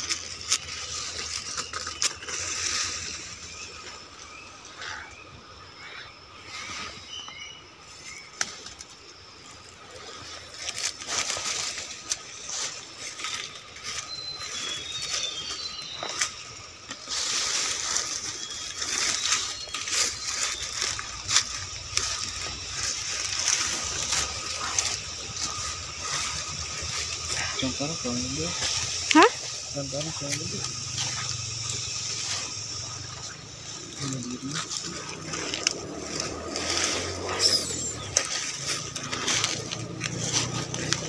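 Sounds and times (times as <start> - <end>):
footsteps in undergrowth: 0.0 - 4.6, 6.7 - 41.0
leaves rustling and crackling: 0.0 - 41.0
bird chirping: 1.0 - 8.6, 12.3 - 16.9, 17.9 - 41.0.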